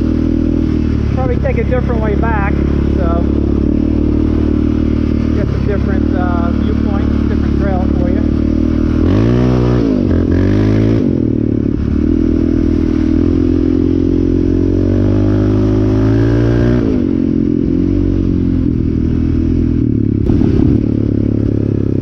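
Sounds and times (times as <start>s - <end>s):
engine revving while riding: 0.0s - 22.0s.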